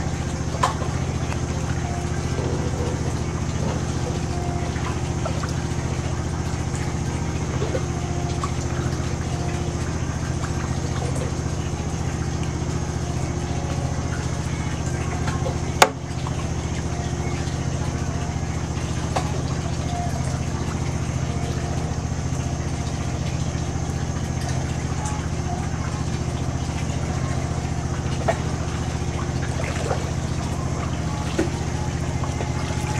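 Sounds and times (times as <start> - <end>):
motor humming with high whine: 0.0 - 32.9.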